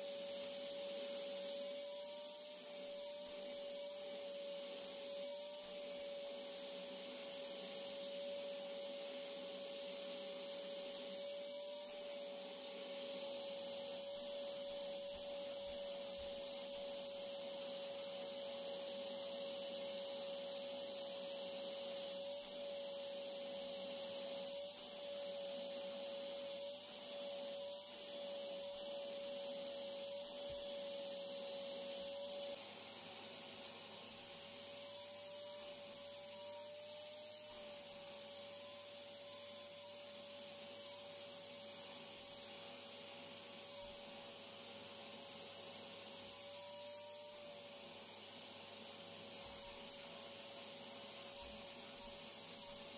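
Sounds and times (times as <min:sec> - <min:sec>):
vacuum cleaner motor whine: 0:00.0 - 0:52.9.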